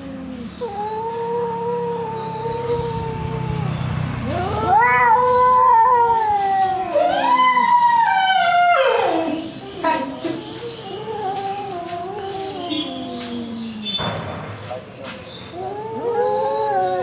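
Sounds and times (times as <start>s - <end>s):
cats yowling in a fight: 0.0s - 13.8s, 15.5s - 17.0s.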